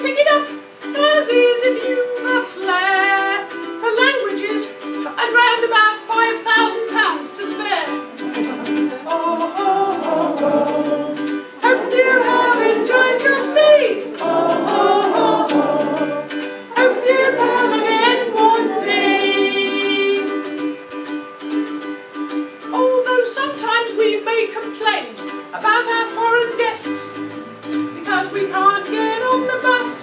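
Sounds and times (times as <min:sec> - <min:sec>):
person singing: 0:00.0 - 0:20.7, 0:22.7 - 0:30.0
ukulele strumming: 0:00.0 - 0:30.0.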